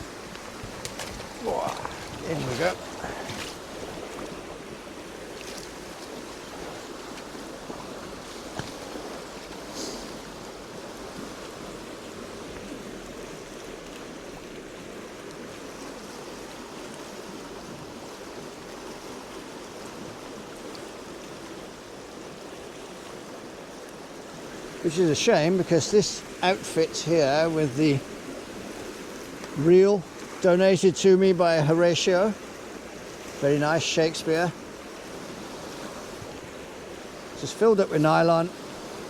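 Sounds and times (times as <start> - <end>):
stream water flowing: 0.0 - 39.0.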